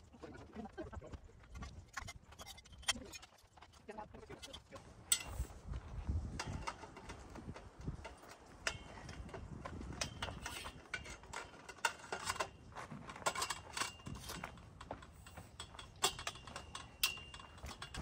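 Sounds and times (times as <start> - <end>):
metal tubes clinking and scraping: 1.4 - 18.0.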